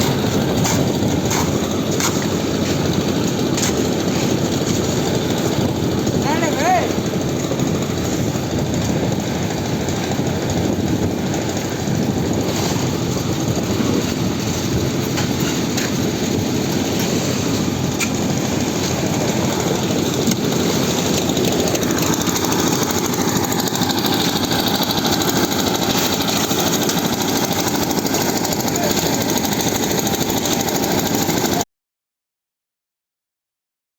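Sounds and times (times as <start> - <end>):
concrete mixer engine running: 0.0 - 31.6.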